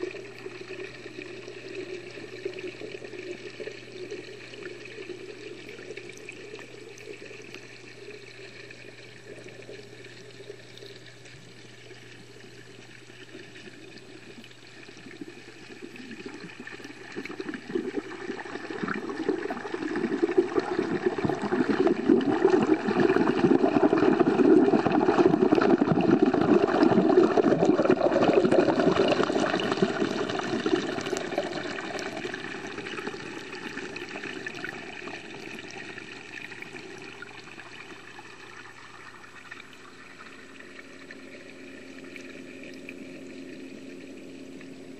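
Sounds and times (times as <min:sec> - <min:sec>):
faint low hum: 0:00.0 - 0:44.9
water rushing and bubbling underwater: 0:00.0 - 0:44.9.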